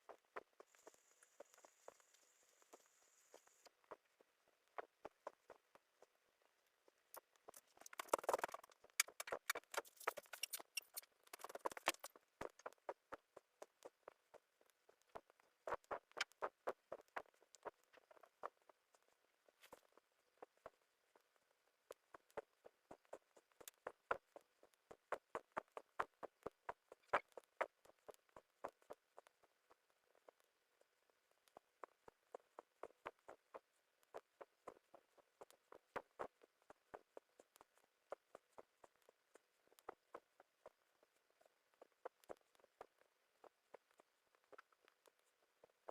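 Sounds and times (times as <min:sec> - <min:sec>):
stylus tapping and scratching on tablet: 0:00.0 - 0:45.9.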